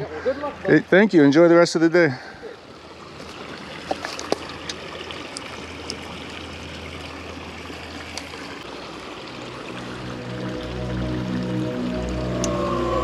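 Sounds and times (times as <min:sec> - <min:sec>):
creek water trickling: 0:00.0 - 0:13.0.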